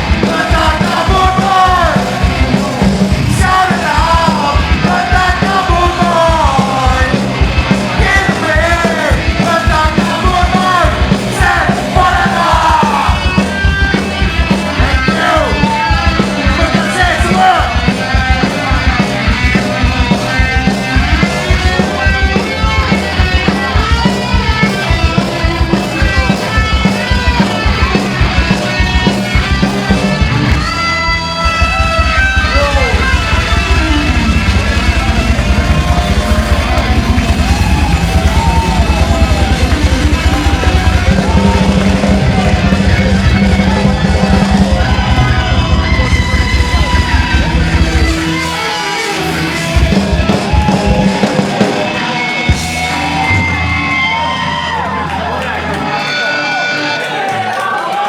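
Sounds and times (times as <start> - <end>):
distorted guitars: 0.0 - 58.0
drums beating: 0.0 - 58.0
punk rock band playing: 0.0 - 58.0.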